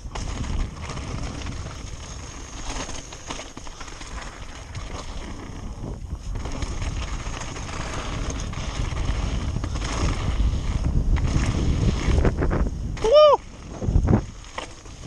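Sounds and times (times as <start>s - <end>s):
wind rushing over microphone: 0.0s - 2.6s, 4.2s - 15.0s
bike tyres crunching over stones: 0.0s - 15.0s.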